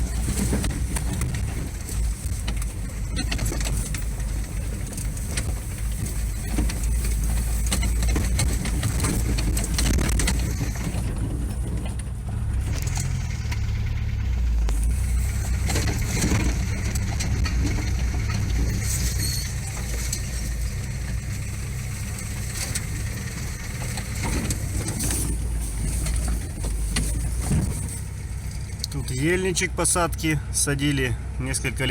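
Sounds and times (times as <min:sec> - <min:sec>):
knocks and rattles: 0:00.0 - 0:29.0
vehicle engine and road rumble: 0:00.0 - 0:31.9.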